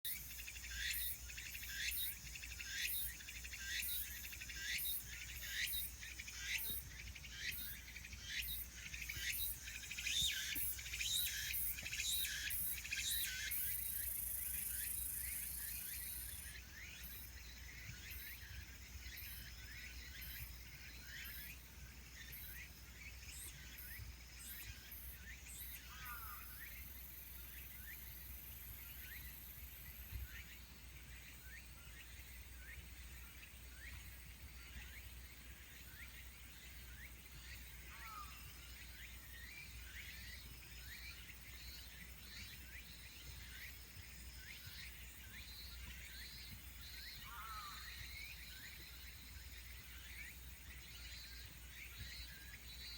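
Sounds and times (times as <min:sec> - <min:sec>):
insects chirping: 0:00.1 - 0:52.9.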